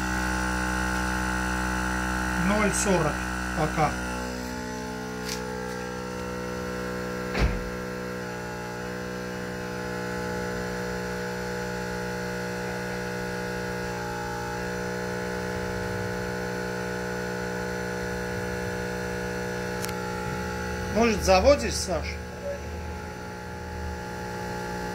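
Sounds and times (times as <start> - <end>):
air compressor humming: 0.0 - 24.9.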